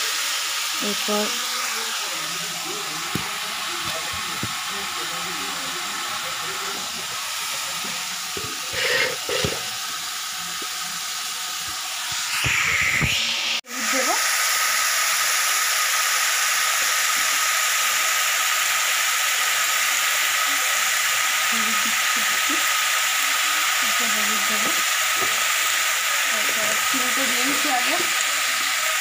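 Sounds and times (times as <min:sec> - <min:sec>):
vegetables frying hiss: 0:00.0 - 0:29.0.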